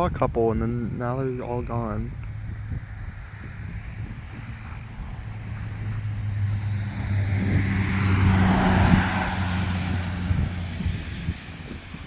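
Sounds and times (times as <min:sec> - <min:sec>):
vehicle passing by: 0:02.1 - 0:12.0.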